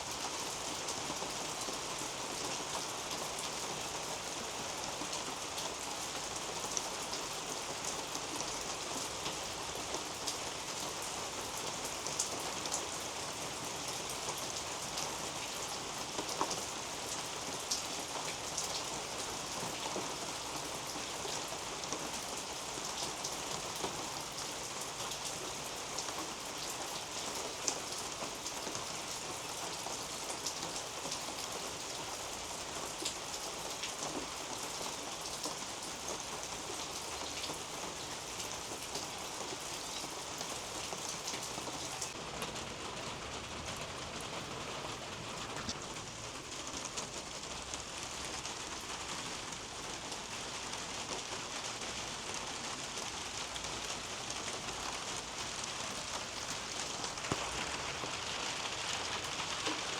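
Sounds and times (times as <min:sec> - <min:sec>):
rain on leaves and soil: 0:00.0 - 0:59.9.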